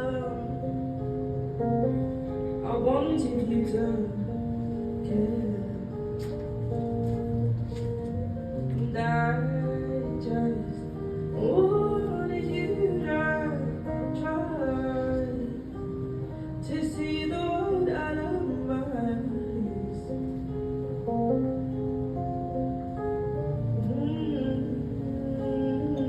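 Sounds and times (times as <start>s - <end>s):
guitar chords: 0.0s - 26.0s.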